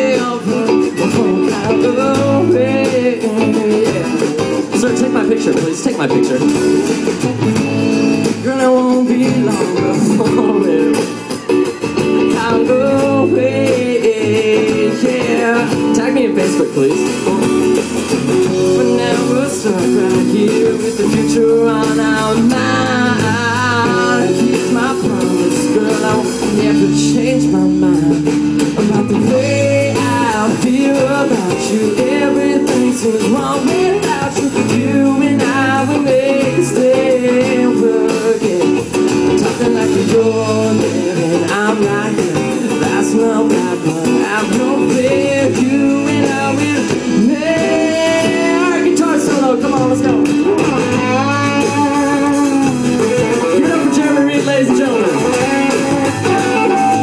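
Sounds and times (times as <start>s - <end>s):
bluesy guitar and bass music: 0.0s - 57.0s.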